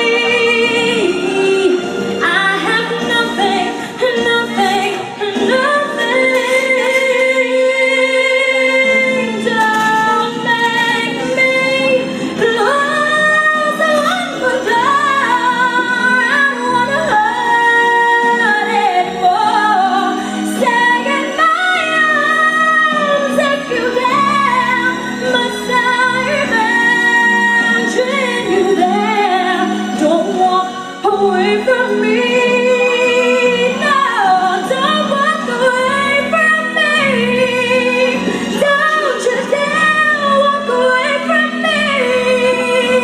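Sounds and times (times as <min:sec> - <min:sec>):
instrumental accompaniment: 0:00.0 - 0:43.0
woman singing: 0:00.0 - 0:43.0.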